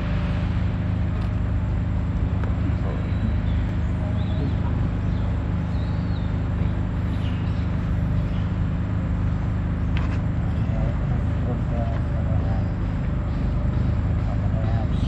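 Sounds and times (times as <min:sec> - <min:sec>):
steady low drone: 0:00.0 - 0:15.0.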